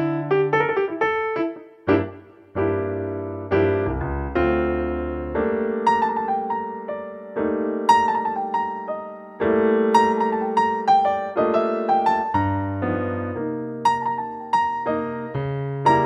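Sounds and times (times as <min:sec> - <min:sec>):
piano playing chords and melody: 0:00.0 - 0:16.0.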